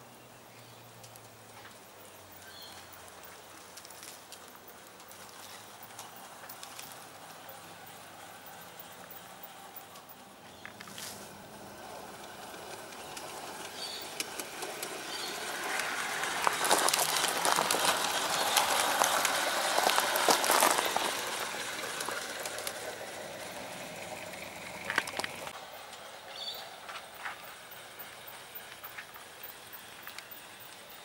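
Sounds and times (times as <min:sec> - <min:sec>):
wheels clicking on track: 0:00.2 - 0:31.0
model train running on track: 0:01.0 - 0:31.0.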